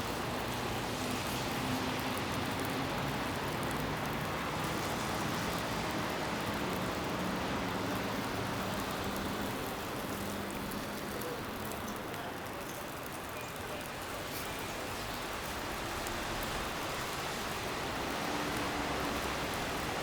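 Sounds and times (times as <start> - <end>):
traffic noise hiss: 0.0 - 20.0.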